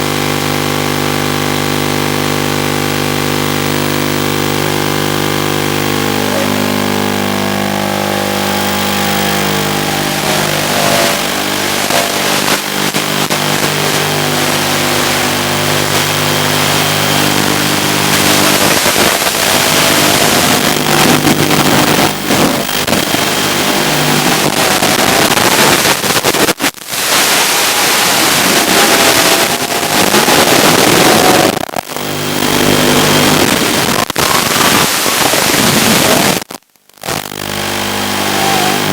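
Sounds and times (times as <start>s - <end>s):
quadcopter motors humming: 4.0s - 26.2s, 26.9s - 35.2s, 37.8s - 38.9s.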